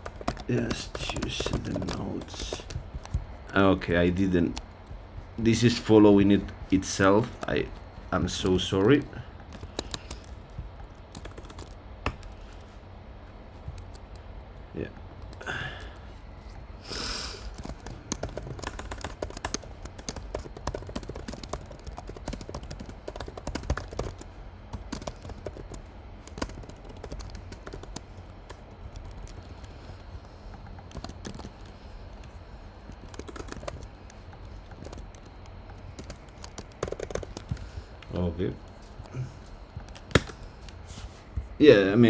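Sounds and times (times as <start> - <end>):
computer keyboard typing: 0.0 - 12.7, 13.6 - 14.3, 17.1 - 40.8.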